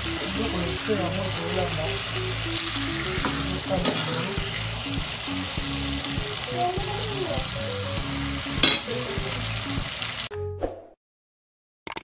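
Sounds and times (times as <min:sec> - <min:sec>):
food sizzling in a frying pan: 0:00.0 - 0:10.3.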